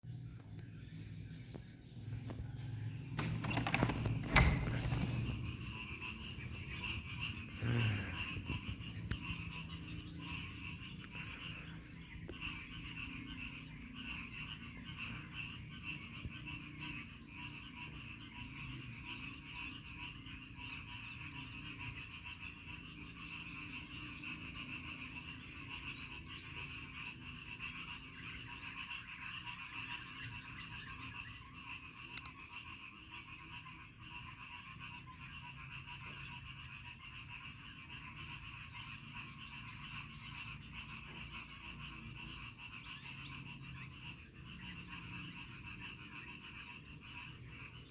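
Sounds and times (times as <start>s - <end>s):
frogs calling: 0.1s - 47.9s.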